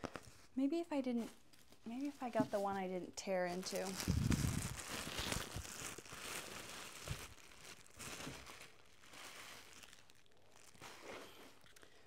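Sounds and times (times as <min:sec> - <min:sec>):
plastic and paper crinkling: 0:00.0 - 0:12.0.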